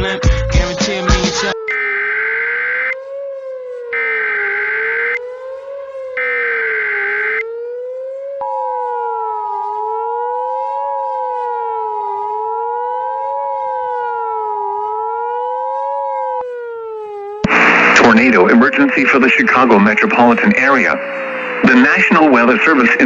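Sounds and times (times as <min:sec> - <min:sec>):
wailing siren: 0:00.2 - 0:23.0.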